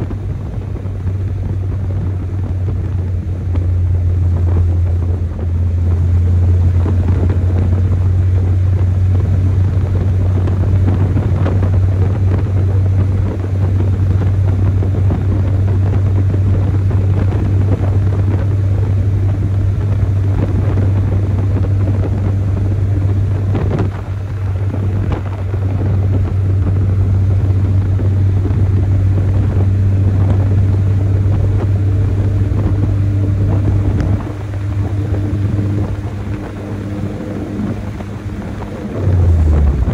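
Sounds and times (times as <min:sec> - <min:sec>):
pickup engine droning: 0:00.0 - 0:39.9
road and wind noise: 0:00.0 - 0:39.9.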